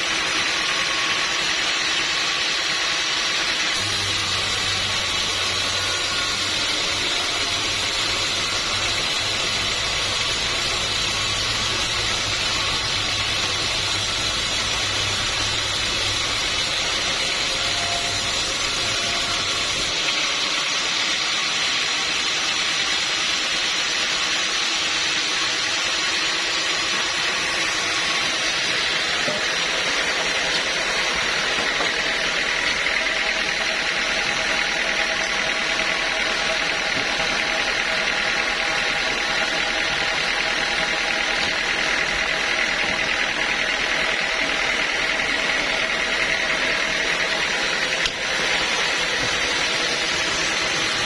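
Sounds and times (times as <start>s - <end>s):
sawmill machinery hissing: 0.0s - 51.0s.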